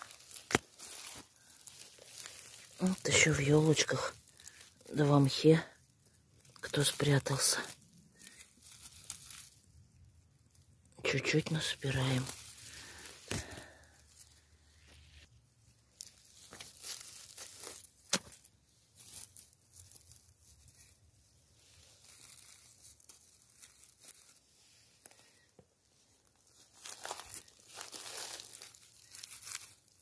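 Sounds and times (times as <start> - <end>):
rustling in dry moss and litter: 0.0 - 30.0.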